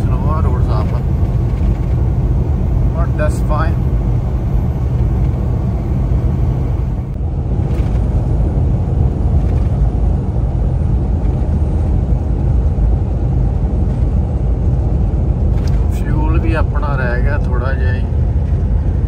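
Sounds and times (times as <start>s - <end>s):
diesel engine rumble: 0.0s - 19.0s
road and tyre noise: 0.0s - 19.0s.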